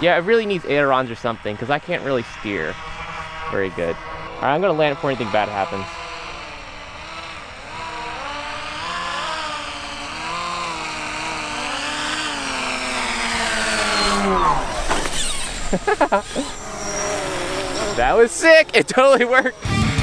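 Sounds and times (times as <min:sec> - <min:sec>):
rc plane motors buzzing: 0:00.0 - 0:20.0.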